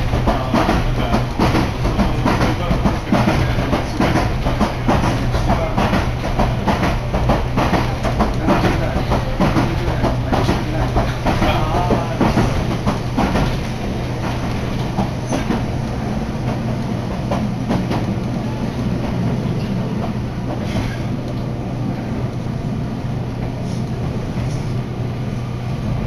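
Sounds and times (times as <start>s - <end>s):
wheels clicking over rail joints: 0.0s - 21.5s
train rumble and hum: 0.0s - 26.0s.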